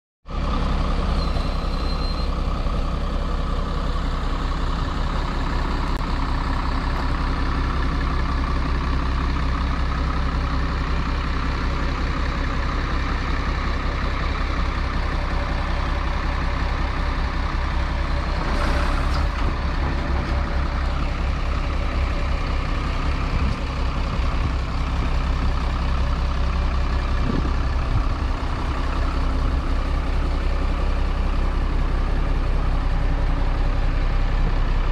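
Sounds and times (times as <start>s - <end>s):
diesel truck engine idling: 0.3s - 34.9s.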